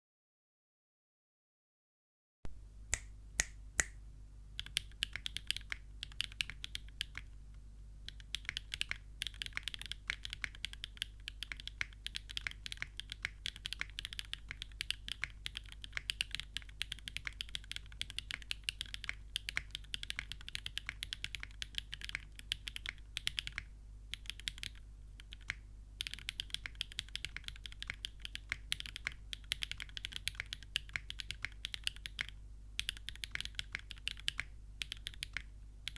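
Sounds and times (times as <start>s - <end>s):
mechanical keyboard typing: 4.6s - 7.3s, 8.1s - 35.9s.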